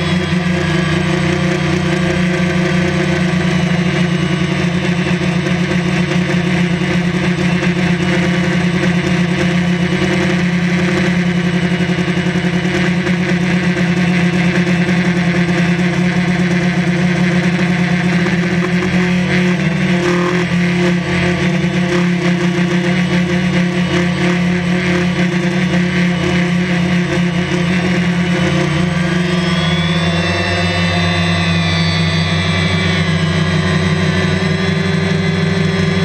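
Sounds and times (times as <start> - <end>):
drone motors humming: 0.0 - 36.0.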